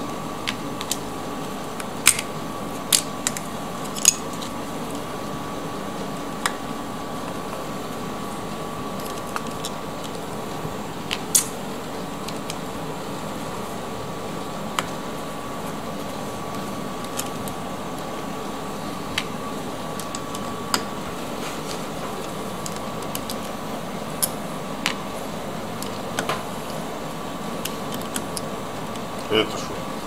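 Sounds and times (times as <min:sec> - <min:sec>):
background hum: 0:00.0 - 0:30.0.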